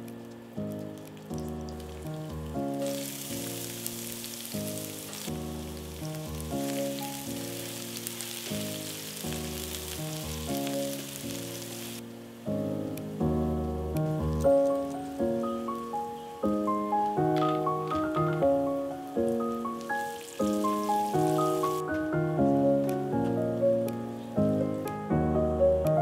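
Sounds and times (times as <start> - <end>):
onions sizzling in oil: 0.0 - 13.2, 14.3 - 22.8
background music with melody: 0.0 - 26.0.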